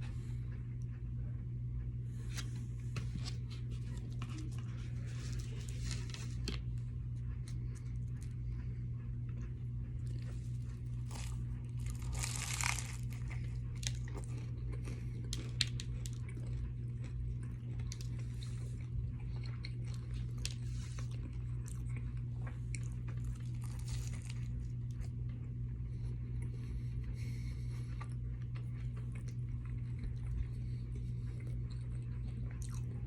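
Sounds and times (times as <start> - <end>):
steady low hum: 0.0 - 33.0
person chewing crunchy food: 2.2 - 25.3, 26.4 - 33.0.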